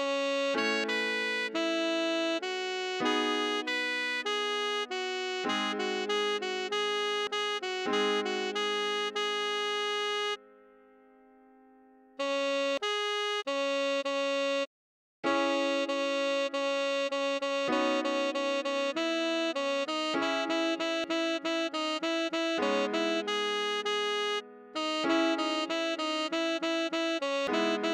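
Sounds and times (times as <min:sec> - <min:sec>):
tenor saxophone melody: 0:00.0 - 0:10.4, 0:12.2 - 0:27.9.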